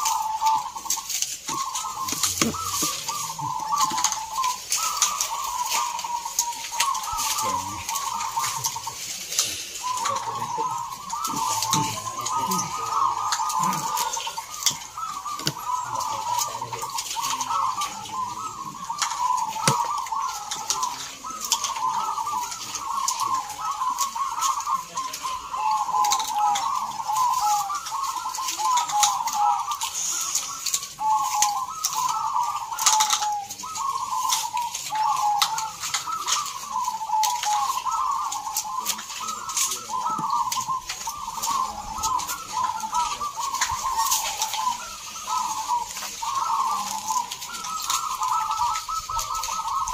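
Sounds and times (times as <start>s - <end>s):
doves cooing in chorus: 0.0s - 49.9s.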